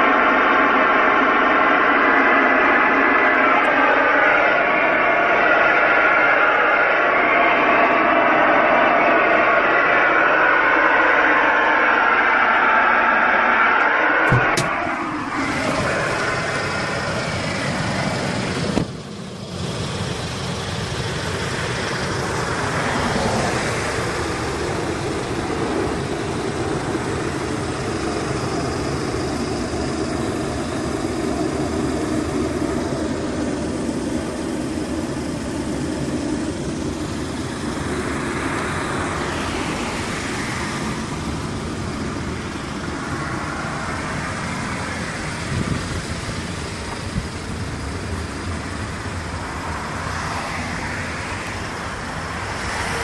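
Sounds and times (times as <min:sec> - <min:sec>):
road traffic rush: 0:00.0 - 0:53.0.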